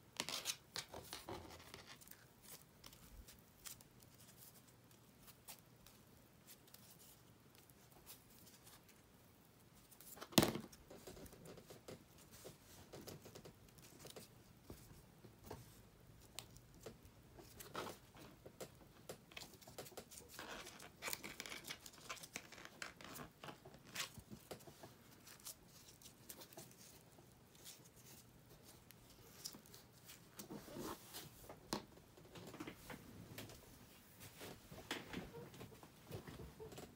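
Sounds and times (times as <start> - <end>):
ribbon rustling and crinkling: 0.1 - 36.9.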